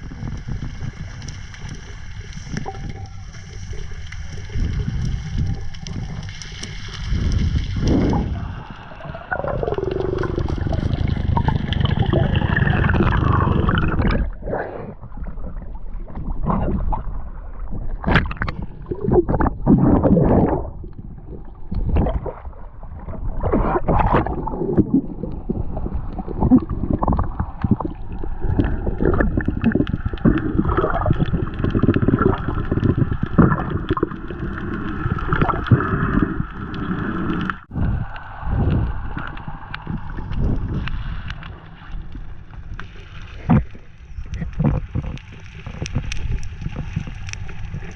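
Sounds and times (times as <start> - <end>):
water bubbling: 0.0 - 47.9
water gurgling and sloshing: 0.0 - 47.9.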